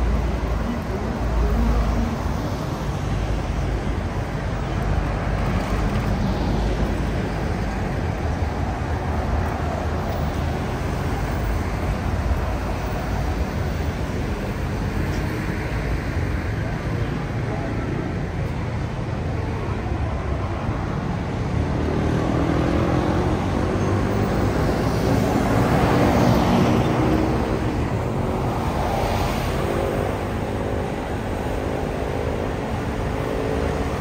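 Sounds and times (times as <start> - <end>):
road traffic: 0.0 - 34.0.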